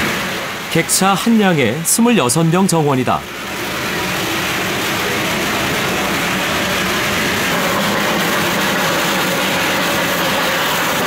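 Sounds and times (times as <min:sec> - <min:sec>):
steam train rumble and hiss: 0:00.0 - 0:11.0.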